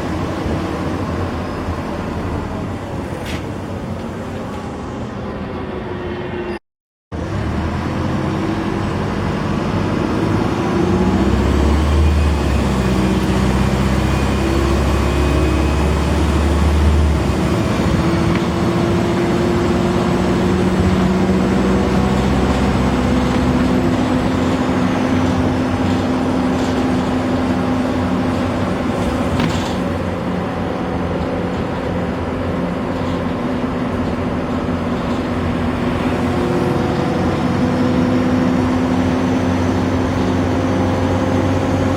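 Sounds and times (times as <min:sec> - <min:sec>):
bus diesel engine running: 0:00.0 - 0:06.4, 0:07.1 - 0:41.9.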